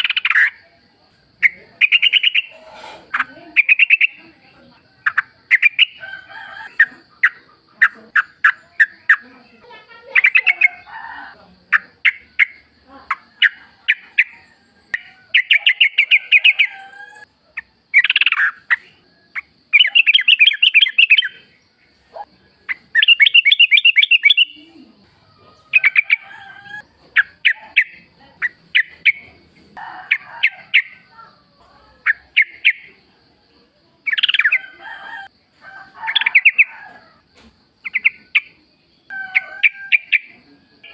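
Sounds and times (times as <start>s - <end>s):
bulbul singing: 0.0s - 25.0s, 25.6s - 29.4s, 32.0s - 33.1s, 34.0s - 34.8s, 37.8s - 40.9s.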